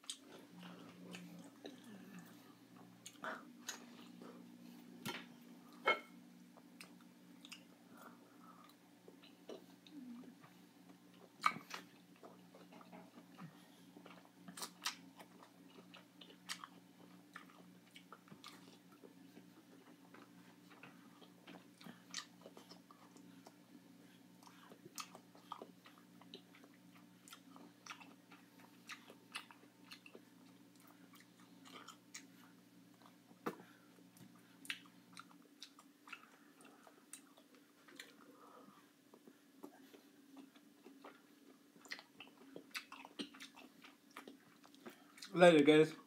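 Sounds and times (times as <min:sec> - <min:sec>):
chewing juicy pineapple: 0:00.0 - 0:45.8
low steady hum: 0:00.0 - 0:46.0.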